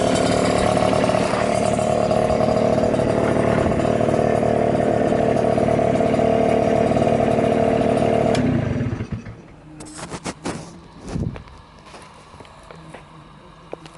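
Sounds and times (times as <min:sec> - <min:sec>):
scooter engine running: 0:00.0 - 0:13.9.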